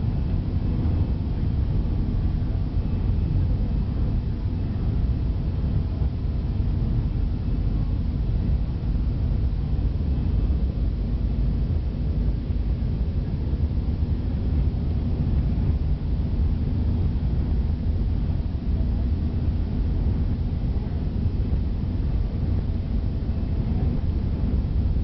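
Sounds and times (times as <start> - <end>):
jet engines at takeoff power: 0.0 - 25.0
wheels rumbling on runway: 0.0 - 25.0.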